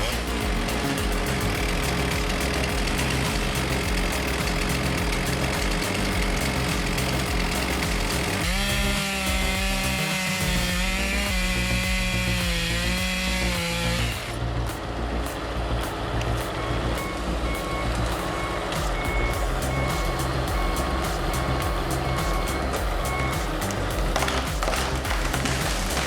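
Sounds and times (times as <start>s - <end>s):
chainsaw running at high revs: 0.0s - 14.4s, 18.9s - 26.0s
machinery noise: 0.0s - 26.0s.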